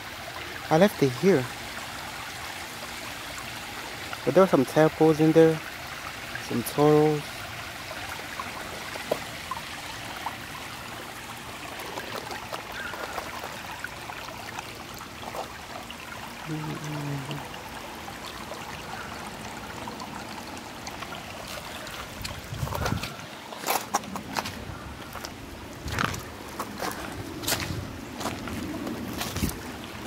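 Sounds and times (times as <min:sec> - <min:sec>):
creek water flowing over rocks: 0:00.0 - 0:30.0.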